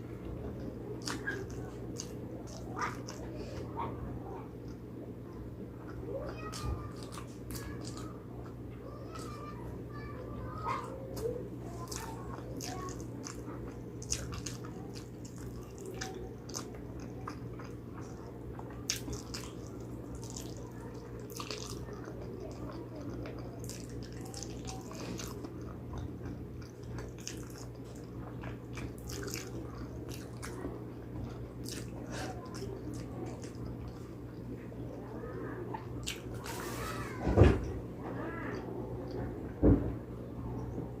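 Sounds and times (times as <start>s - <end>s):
steady low hum: 0.0s - 41.0s
person chewing wetly: 0.5s - 3.6s, 4.6s - 8.6s, 11.1s - 36.8s.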